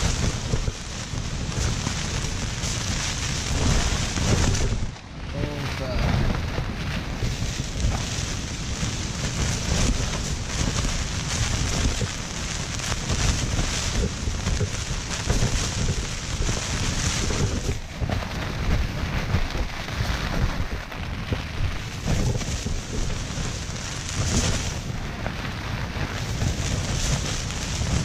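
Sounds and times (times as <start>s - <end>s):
rain on tent: 0.0s - 28.0s
tent fabric flapping in wind: 0.0s - 28.0s.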